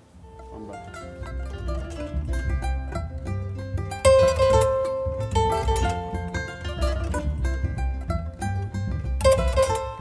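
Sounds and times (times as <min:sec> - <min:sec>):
plucked-string melody: 0:00.0 - 0:10.0
low bass: 0:00.4 - 0:10.0.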